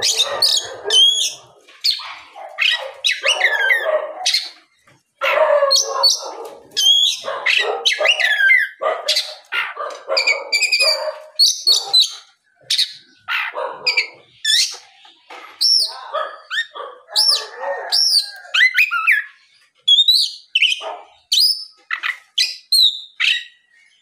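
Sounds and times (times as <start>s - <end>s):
bird singing whistles and rasps: 0.0s - 4.6s, 5.7s - 9.4s, 10.2s - 14.9s, 15.6s - 24.0s.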